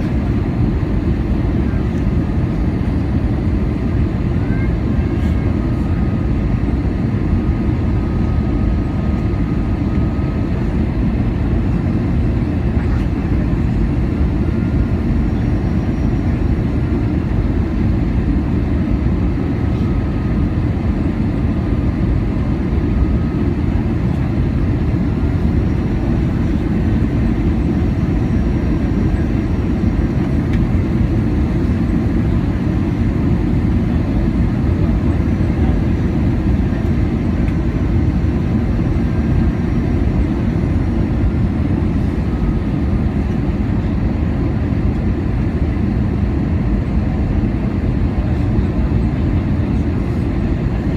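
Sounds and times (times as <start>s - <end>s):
airplane cabin noise: 0.0s - 50.9s.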